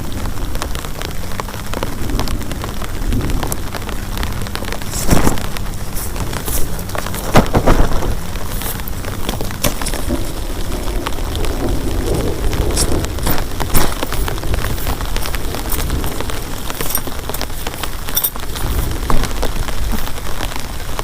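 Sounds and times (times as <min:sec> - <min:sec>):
heavy rain pattering: 0:00.0 - 0:21.0
heavy rain splatters: 0:00.0 - 0:21.0.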